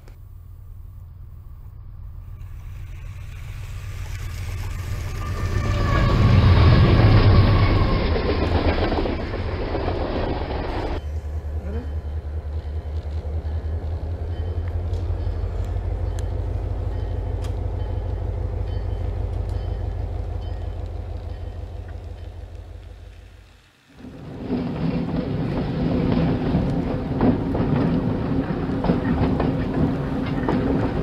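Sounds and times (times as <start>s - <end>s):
low pulsing hum: 0.0s - 31.0s
model train rushing whir: 2.3s - 31.0s.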